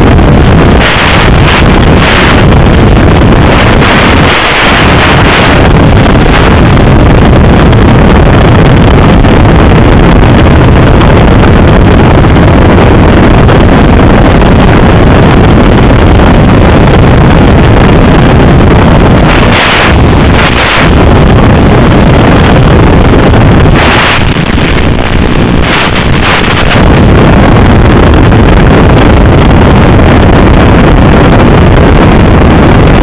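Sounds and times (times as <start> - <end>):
wind over microphone: 0.0 - 33.0.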